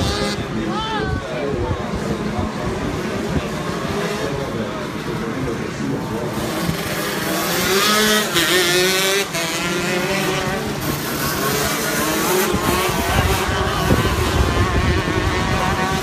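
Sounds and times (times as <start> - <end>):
kart engine revving: 0.0 - 0.8, 1.8 - 16.0.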